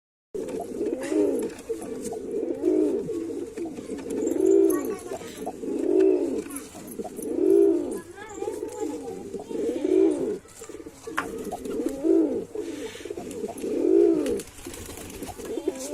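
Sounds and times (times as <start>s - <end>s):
pigeon cooing: 0.4s - 15.9s.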